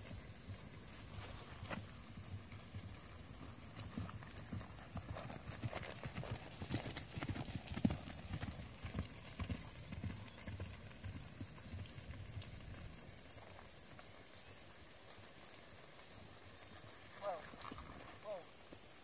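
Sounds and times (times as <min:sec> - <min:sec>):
hoofbeats of horses trotting on grass: 0:00.0 - 0:19.0.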